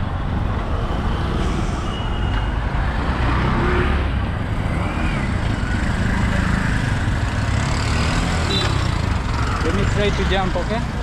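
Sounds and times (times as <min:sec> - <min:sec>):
road traffic engines and tyres: 0:00.0 - 0:11.0.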